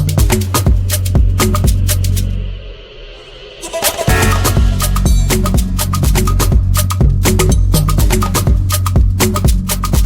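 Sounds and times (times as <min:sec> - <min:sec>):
electronic music with percussive beat: 0:00.0 - 0:02.5, 0:03.3 - 0:10.0.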